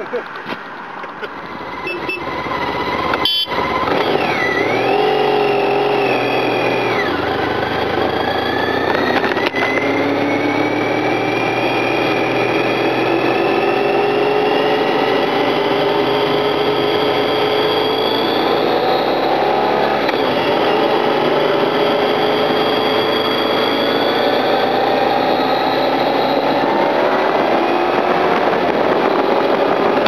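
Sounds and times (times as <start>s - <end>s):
motorcycle engine accelerating: 1.1s - 30.0s.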